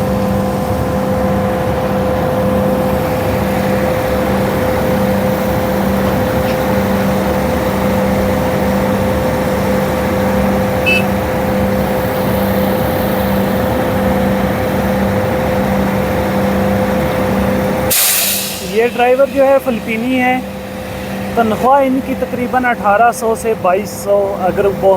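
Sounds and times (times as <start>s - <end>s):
truck diesel engine droning: 0.0s - 24.9s.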